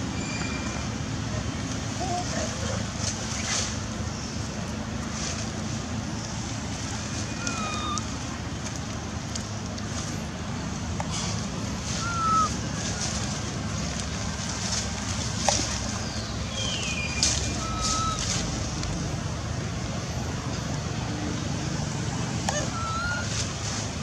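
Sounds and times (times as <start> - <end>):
low wind rumble: 0.0 - 24.0.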